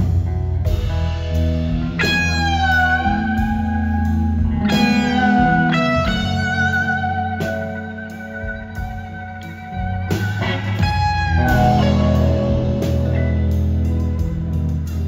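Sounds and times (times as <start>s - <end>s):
electric guitar lead notes: 0.0s - 15.0s
steady bass: 0.0s - 15.0s.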